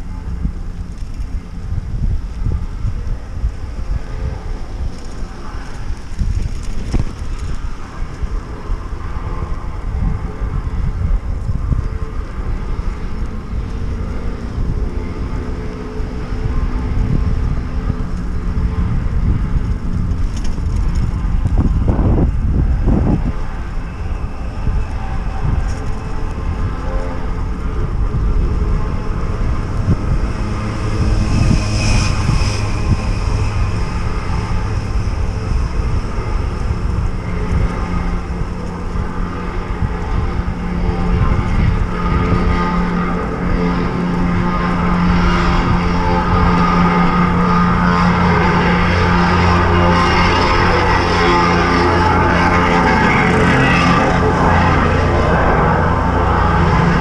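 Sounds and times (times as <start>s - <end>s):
city traffic rumble: 0.0s - 57.0s
wind on microphone: 0.0s - 57.0s.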